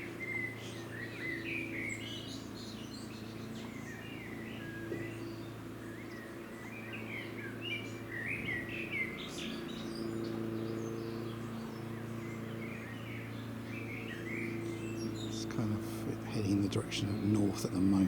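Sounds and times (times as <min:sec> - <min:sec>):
low mechanical hum: 0:00.0 - 0:18.0
small birds chirping: 0:00.0 - 0:18.0.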